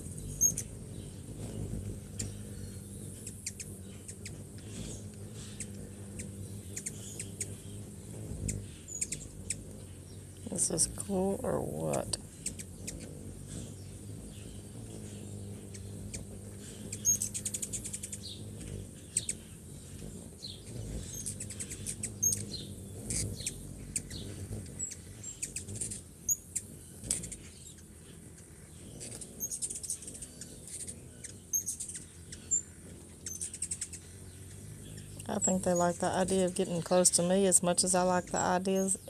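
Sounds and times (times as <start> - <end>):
hummingbird wings humming: 0.0 - 39.0
hummingbirds chittering: 0.0 - 39.0.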